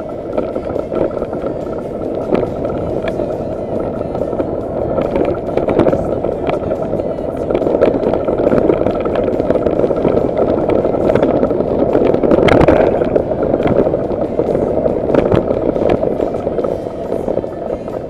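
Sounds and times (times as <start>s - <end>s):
bicycle rattling on rough trail: 0.0s - 18.0s
wheels knocking on bumps: 0.0s - 18.0s
wind buffeting microphone: 0.0s - 18.0s.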